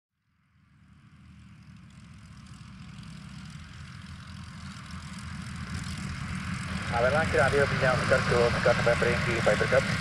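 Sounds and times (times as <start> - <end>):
propeller aircraft engine running: 0.2 - 10.0.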